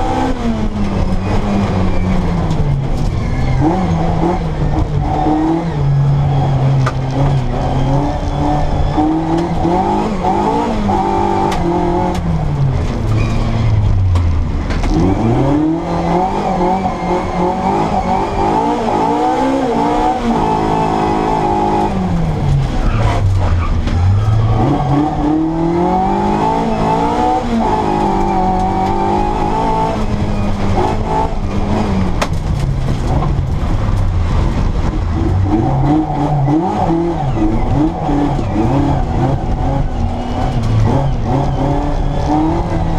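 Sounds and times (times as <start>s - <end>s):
car engine revving through gears: 0.0s - 42.9s.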